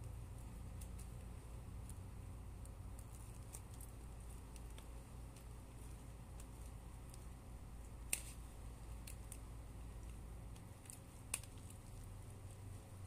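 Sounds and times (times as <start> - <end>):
fingers rustling through hair: 0.0 - 13.0.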